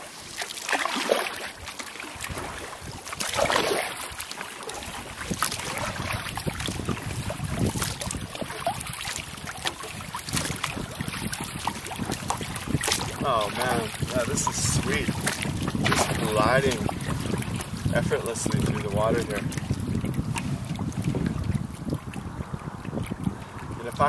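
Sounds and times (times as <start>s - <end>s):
paddle strokes splashing and dripping: 0.0s - 24.0s
water lapping at hull: 0.0s - 24.0s
wind rumbling on microphone: 1.4s - 24.0s.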